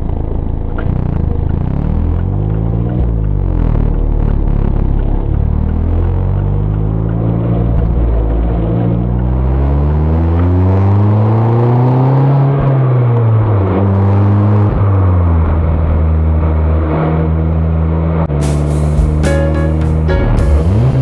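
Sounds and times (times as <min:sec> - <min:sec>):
car engine and exhaust: 0:00.0 - 0:19.2, 0:20.2 - 0:21.0.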